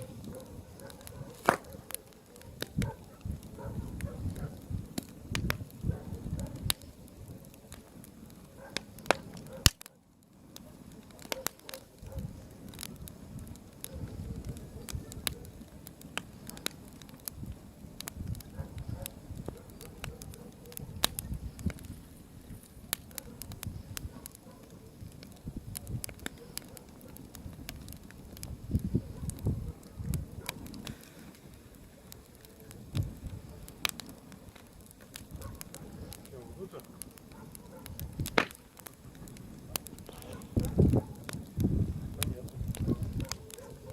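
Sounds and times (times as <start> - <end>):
bonfire crackling and popping: 0.0 - 43.9
low fire rumble: 0.0 - 43.9.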